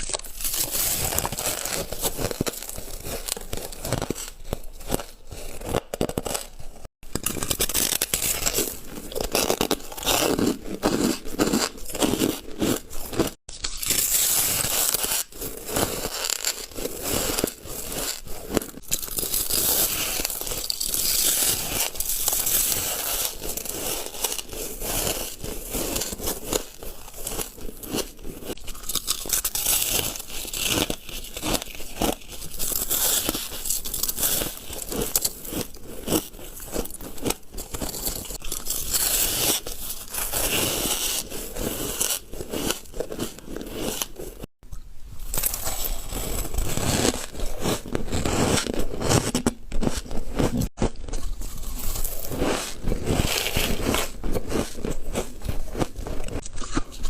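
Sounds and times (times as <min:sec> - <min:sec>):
ice crunching when chewed: 0:00.0 - 0:44.5, 0:45.2 - 0:57.0.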